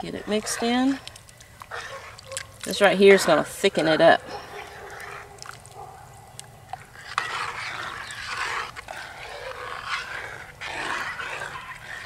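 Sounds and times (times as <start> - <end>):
spoon stirring thick broth: 0.0 - 12.0.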